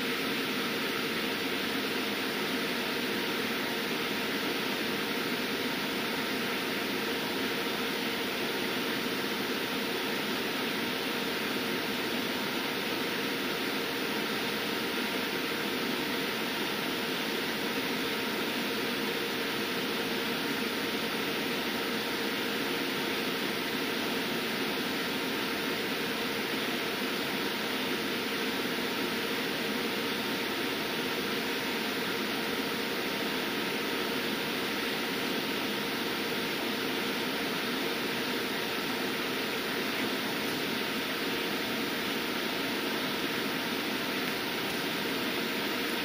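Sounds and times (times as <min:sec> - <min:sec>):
charger steady rushing noise: 0:00.0 - 0:46.0.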